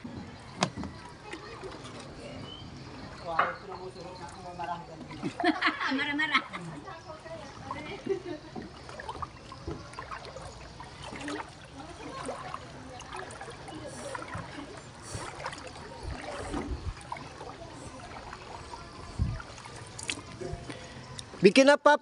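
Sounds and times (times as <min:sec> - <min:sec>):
knocks and splashes: 0:00.0 - 0:05.8, 0:06.7 - 0:21.1
water lapping around boat: 0:00.0 - 0:21.4.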